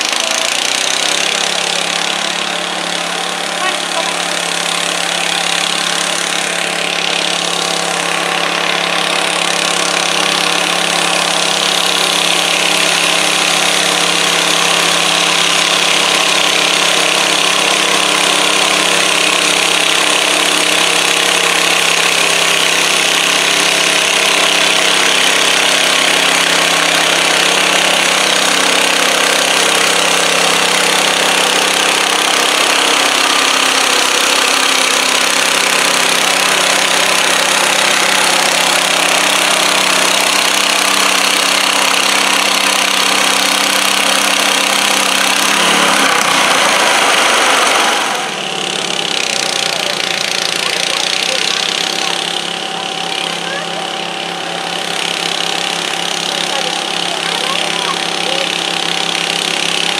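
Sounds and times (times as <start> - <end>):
garden tractor engine under load: 0.0 - 59.9.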